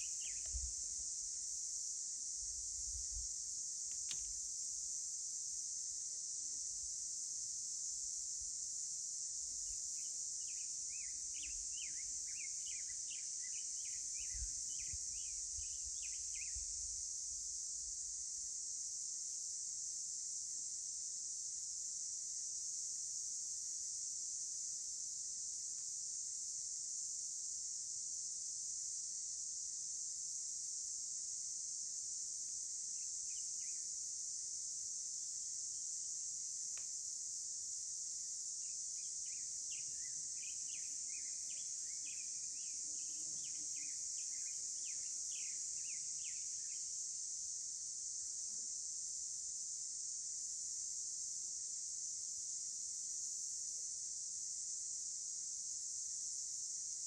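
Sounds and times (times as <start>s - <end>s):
crickets chirring: 0.0s - 19.0s, 28.6s - 57.0s.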